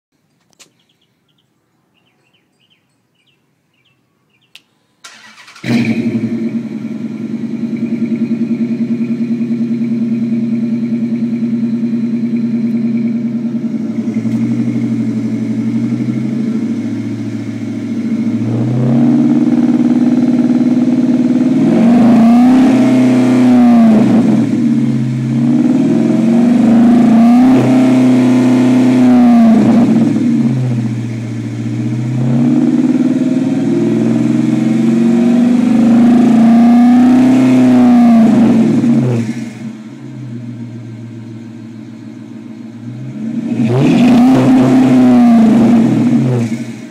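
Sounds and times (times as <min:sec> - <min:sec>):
car engine starting and revving: 0:05.0 - 0:46.9.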